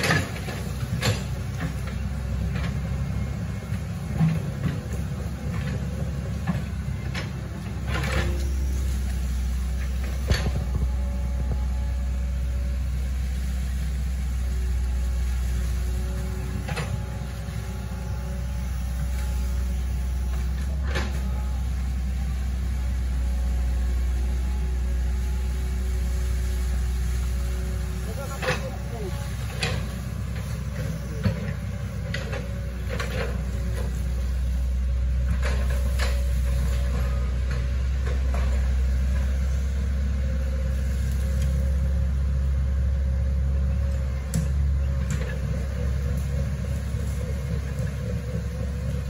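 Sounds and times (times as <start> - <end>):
excavator diesel engine humming: 0.0 - 49.0.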